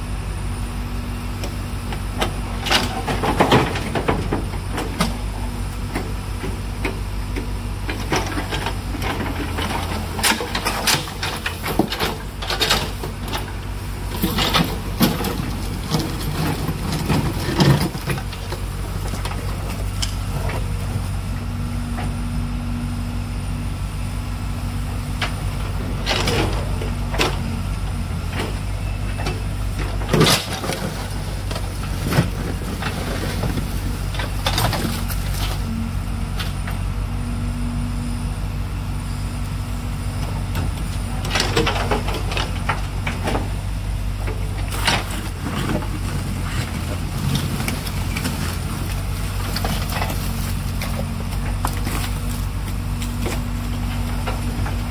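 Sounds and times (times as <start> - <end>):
backhoe diesel engine running: 0.0 - 54.9.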